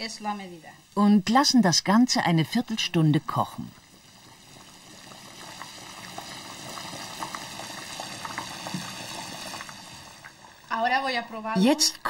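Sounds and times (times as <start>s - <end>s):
stew bubbling with small pops: 0.8s - 11.0s.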